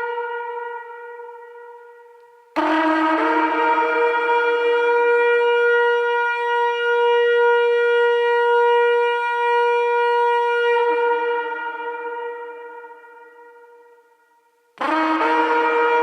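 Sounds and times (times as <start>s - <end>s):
shofar blast: 0.0s - 16.0s.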